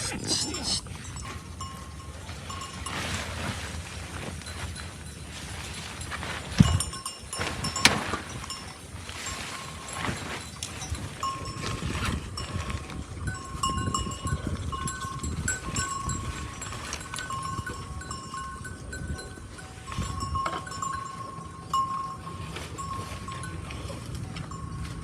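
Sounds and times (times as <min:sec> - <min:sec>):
bells clinking: 0:00.0 - 0:25.0.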